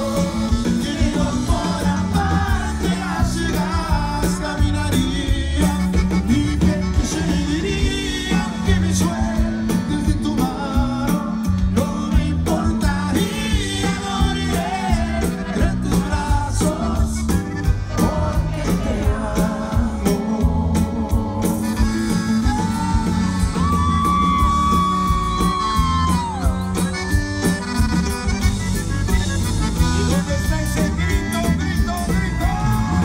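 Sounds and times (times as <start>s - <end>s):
man singing: 0.0s - 26.6s, 29.6s - 33.0s
band with accordion: 0.0s - 33.0s.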